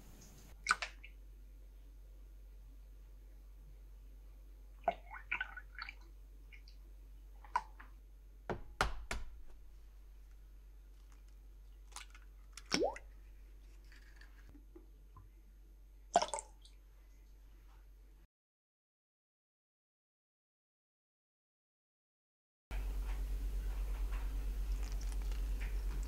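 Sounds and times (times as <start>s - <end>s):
low electrical hum: 0.0s - 18.3s, 22.7s - 26.0s.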